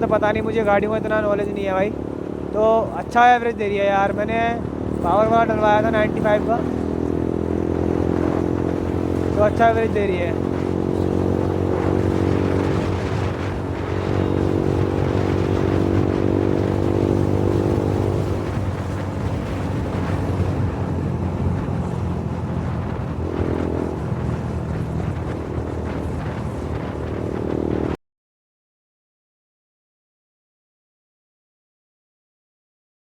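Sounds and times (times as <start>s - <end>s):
motorcycle engine running: 0.0s - 28.0s
wind rushing over microphone: 0.0s - 28.0s.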